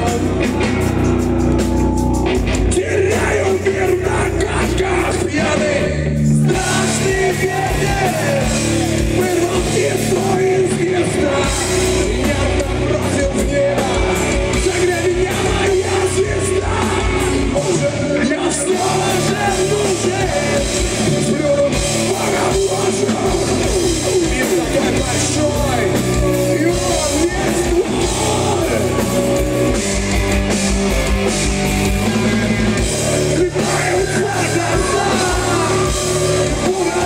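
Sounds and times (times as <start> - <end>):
person shouting and singing: 0.0 - 30.0, 33.1 - 37.0
distorted guitars: 0.0 - 37.0
drums: 0.0 - 37.0.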